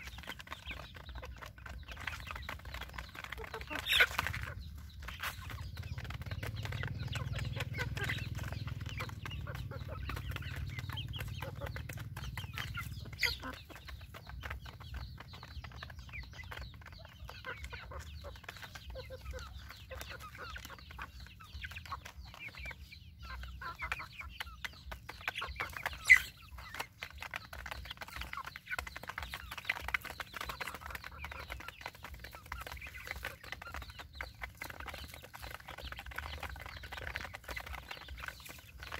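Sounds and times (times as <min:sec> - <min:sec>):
chickens clucking softly: 0:00.0 - 0:38.9.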